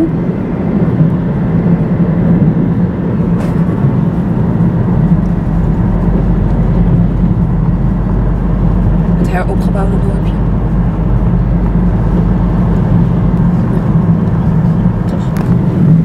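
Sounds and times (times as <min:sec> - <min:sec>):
car engine hum: 0:00.0 - 0:16.0
tyre noise on wet road: 0:00.0 - 0:16.0.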